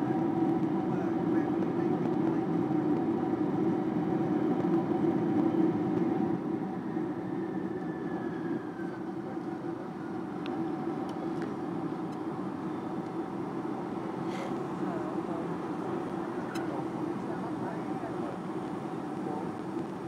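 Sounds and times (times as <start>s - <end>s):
aircraft cabin rumble: 0.0s - 6.7s, 8.8s - 20.0s
engine hum: 0.0s - 20.0s.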